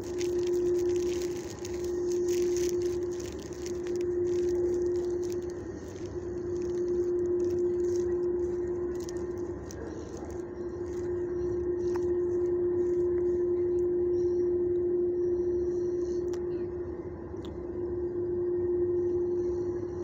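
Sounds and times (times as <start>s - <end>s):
low rumble: 0.0s - 20.0s
steady hum: 0.0s - 20.0s.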